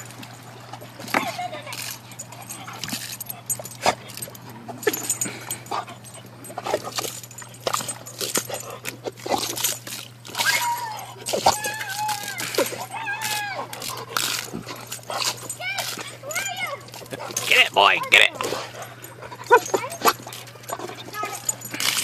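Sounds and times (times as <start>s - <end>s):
dog whining and yipping: 1.7s - 17.5s, 18.6s - 22.0s.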